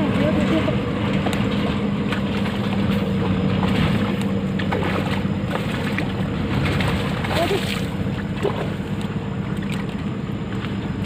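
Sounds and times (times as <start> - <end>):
low steady hum: 0.0 - 11.0
river water rushing: 0.0 - 11.0
water drips and splashes: 0.3 - 11.0.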